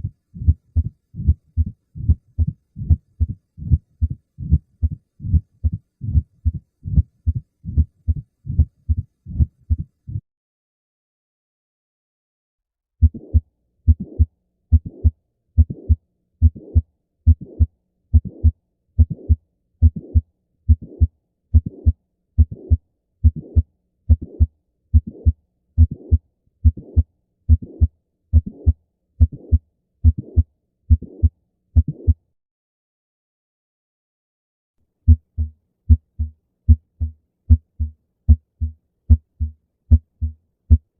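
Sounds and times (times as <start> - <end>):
heartbeat through stethoscope: 0.0 - 10.2, 13.0 - 32.2, 35.1 - 40.9
heart murmur: 0.4 - 10.2, 13.0 - 32.2, 35.1 - 40.9.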